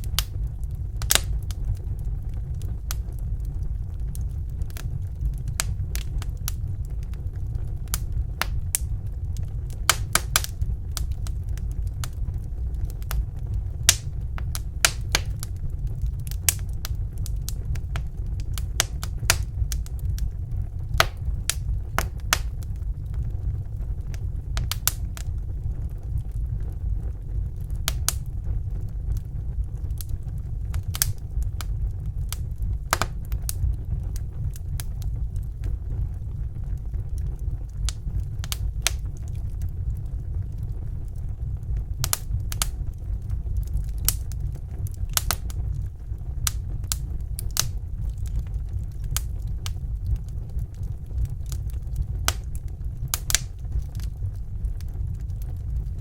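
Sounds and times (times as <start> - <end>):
fire crackles and pops: 0.0 - 56.0
fire flames rumbling: 0.0 - 56.0.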